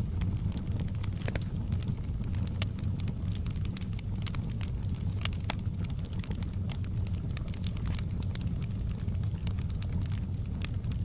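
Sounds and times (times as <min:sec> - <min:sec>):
low rumble of burning fire: 0:00.0 - 0:11.0
wood fire crackling and popping: 0:00.0 - 0:11.0.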